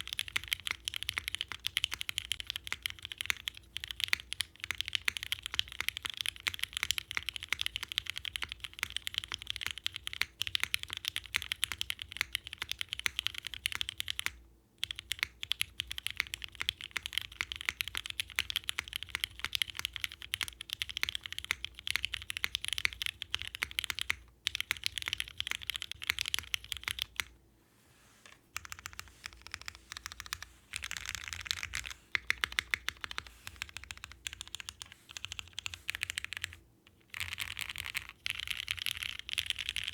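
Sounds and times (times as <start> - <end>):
fast typing on mechanical keyboard: 0.0 - 27.3, 28.6 - 39.9.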